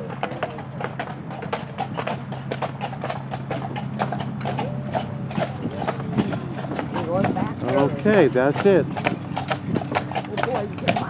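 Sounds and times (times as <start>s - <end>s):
hooves clip-clopping on pavement: 0.0s - 11.0s.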